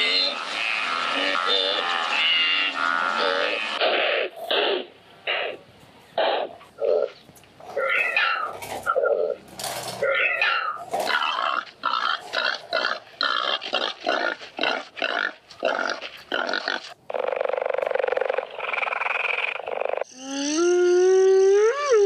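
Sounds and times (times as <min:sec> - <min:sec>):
animal calls: 0:00.0 - 0:05.6, 0:06.2 - 0:22.0.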